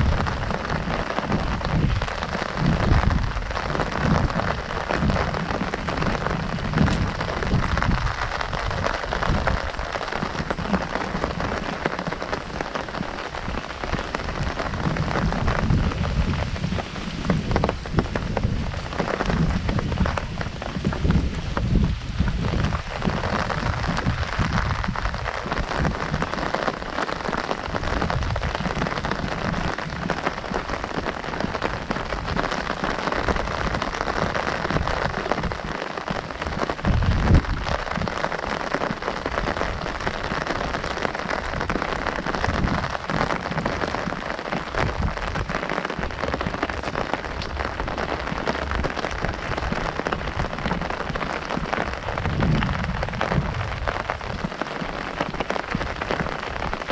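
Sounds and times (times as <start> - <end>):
rain drumming on an umbrella: 0.0 - 56.9.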